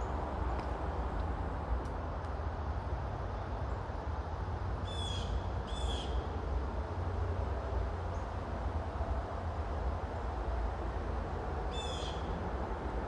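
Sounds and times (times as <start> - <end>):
distant highway traffic rumble: 0.0 - 13.0.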